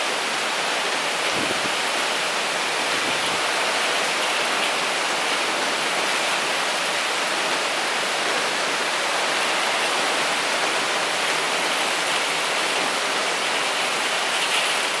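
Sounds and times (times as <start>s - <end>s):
heavy rain pouring: 0.0s - 15.0s
strong wind: 0.2s - 15.0s.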